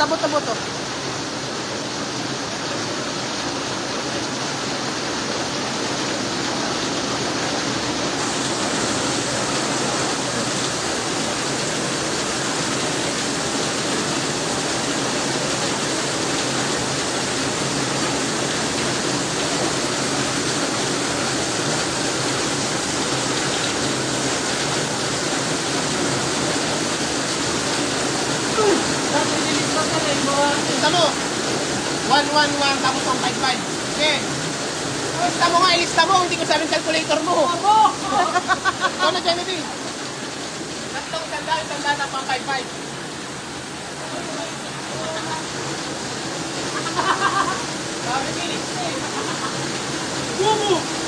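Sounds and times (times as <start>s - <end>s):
floodwater rushing down a street: 0.0s - 51.0s
heavy rain: 0.0s - 51.0s.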